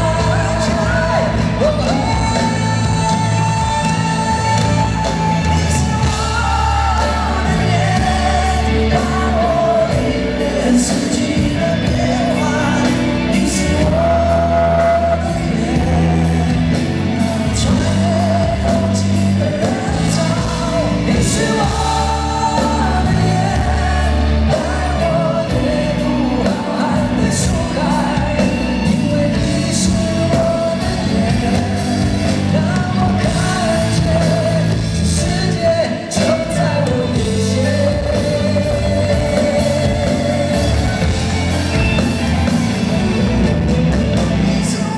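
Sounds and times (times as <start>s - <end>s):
live band playing pop-rock ballad: 0.0s - 44.9s
person singing: 0.0s - 44.9s.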